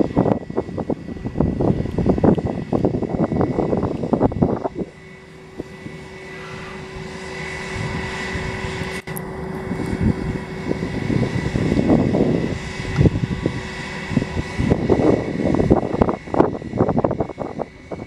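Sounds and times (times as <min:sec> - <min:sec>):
jet engines whining: 0:00.0 - 0:18.0
uneven low rumbling: 0:00.0 - 0:18.0.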